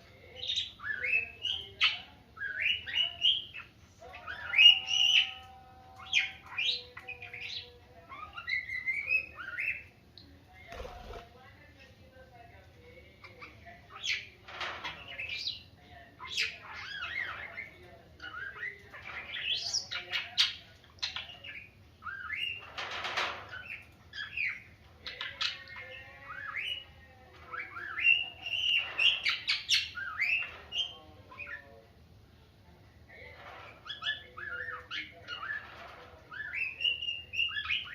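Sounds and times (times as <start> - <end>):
birds chirping and whistling: 0.2 - 10.0, 13.9 - 31.7, 33.1 - 37.9.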